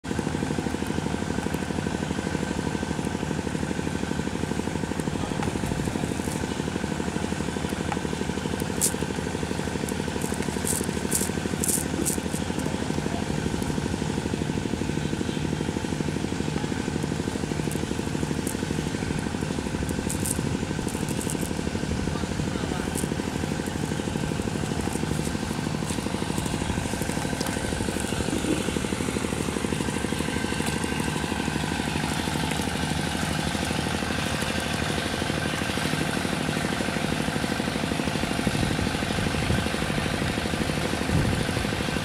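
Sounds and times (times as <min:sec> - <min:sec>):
small engine running: 0:00.0 - 0:42.0.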